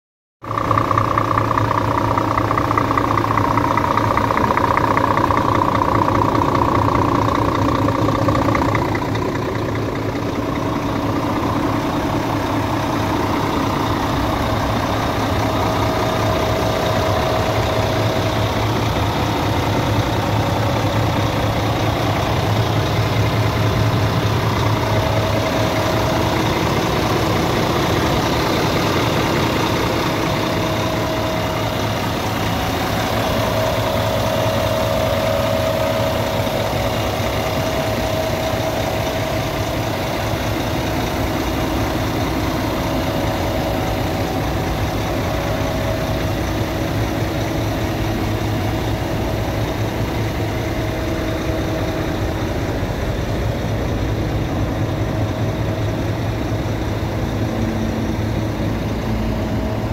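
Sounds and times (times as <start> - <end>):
diesel truck engine idling: 0.4 - 59.9.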